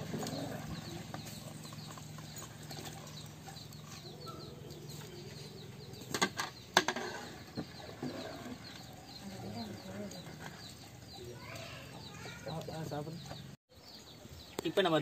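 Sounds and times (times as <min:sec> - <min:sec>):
faint chirping: 0:00.0 - 0:15.0.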